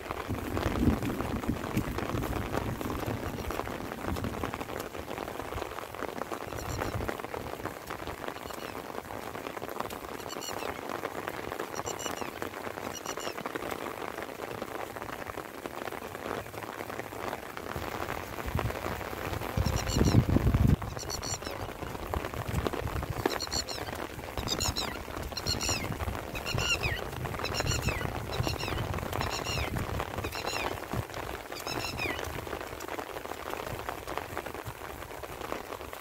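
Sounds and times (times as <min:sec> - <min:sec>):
light rain pattering: 0:00.0 - 0:36.0.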